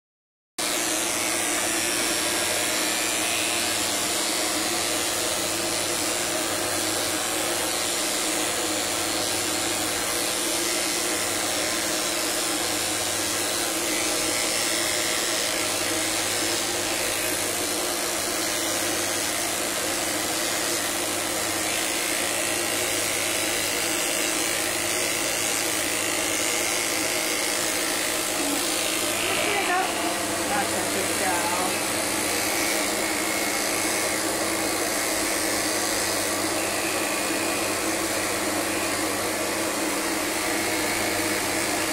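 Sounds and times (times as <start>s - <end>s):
electric clippers buzzing: 0.6s - 41.9s.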